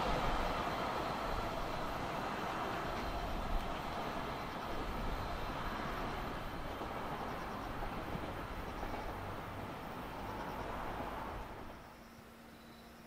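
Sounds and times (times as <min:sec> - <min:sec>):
freight train wagons rumbling on rails: 0:00.0 - 0:12.4.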